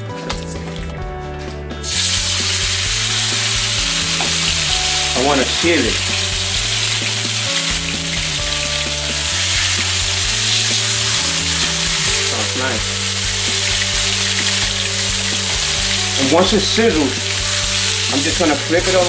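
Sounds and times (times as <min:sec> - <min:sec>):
chicken sizzling in hot oil: 0:01.8 - 0:19.0.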